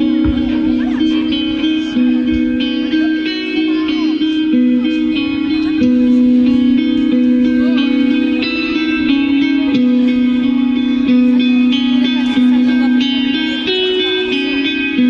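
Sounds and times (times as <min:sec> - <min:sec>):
electric guitar sustained notes: 0:00.0 - 0:15.0.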